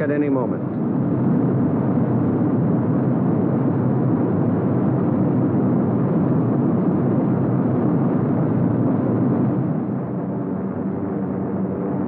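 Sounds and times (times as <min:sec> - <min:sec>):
bomber engines droning inside aircraft: 0:00.0 - 0:12.0.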